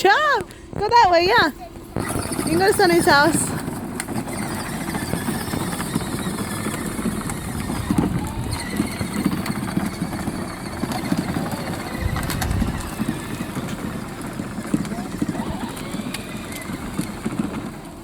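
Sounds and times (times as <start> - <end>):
plastic wheels rolling: 1.9 - 18.0
toy truck electric motor running: 2.0 - 18.0.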